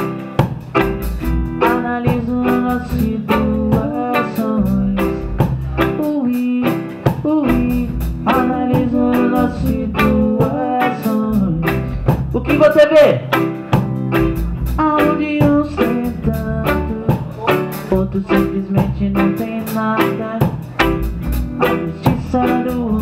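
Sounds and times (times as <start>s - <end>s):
drum kit beat: 0.0s - 23.0s
electric guitar melody: 0.0s - 23.0s.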